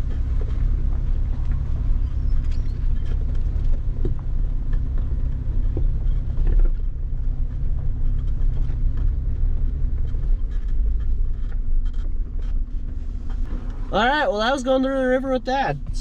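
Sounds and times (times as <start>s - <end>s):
vehicle engine and tyre rumble: 0.0s - 16.0s.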